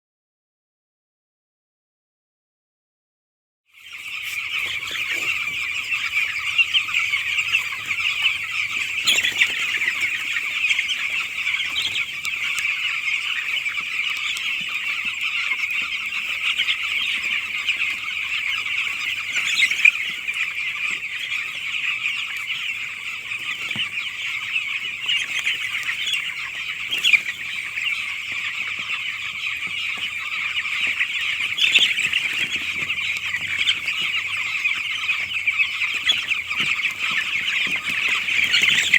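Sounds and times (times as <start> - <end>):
chicks peeping: 3.8 - 38.9.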